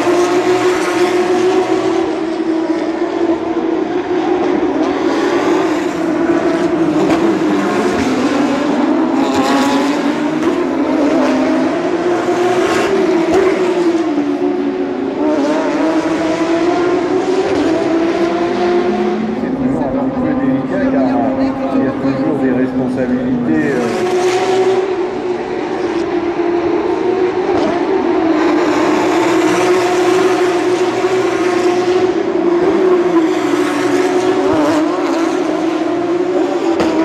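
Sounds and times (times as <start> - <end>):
race car engines passing: 0.0 - 37.0.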